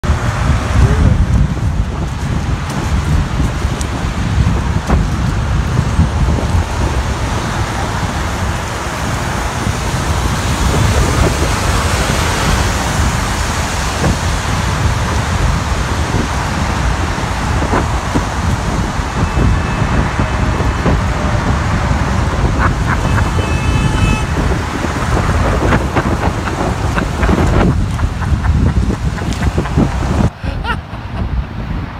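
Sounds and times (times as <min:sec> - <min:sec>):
floodwater rushing over road: 0:00.0 - 0:31.9
wind buffeting microphone: 0:00.0 - 0:31.9.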